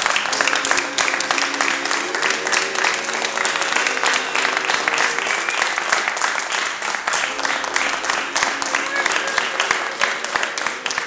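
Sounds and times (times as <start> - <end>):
people clapping: 0.0 - 11.0
voices: 0.0 - 11.0.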